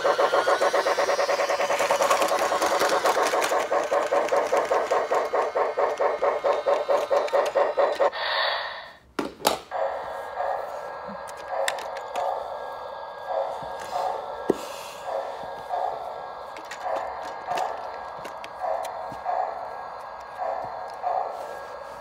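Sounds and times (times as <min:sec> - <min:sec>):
toy train chugging: 0:00.0 - 0:09.0, 0:09.7 - 0:22.0.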